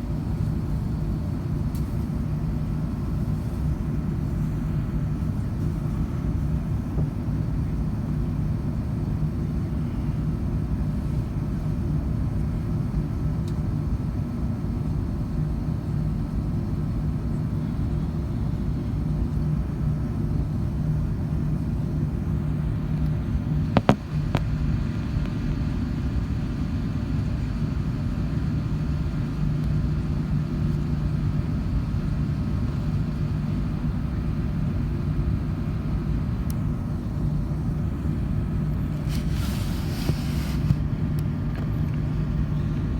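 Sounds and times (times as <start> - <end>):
aircraft cabin rumble and hum: 0.0 - 42.9.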